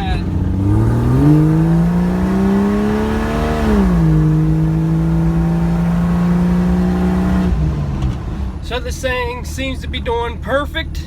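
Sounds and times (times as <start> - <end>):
car engine droning while driving: 0.0 - 11.0.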